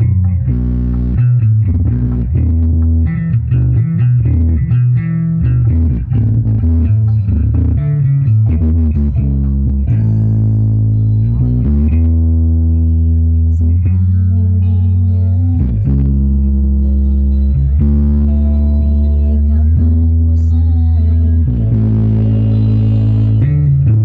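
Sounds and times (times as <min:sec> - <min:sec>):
loud rock music with heavy bass: 0:00.0 - 0:24.0.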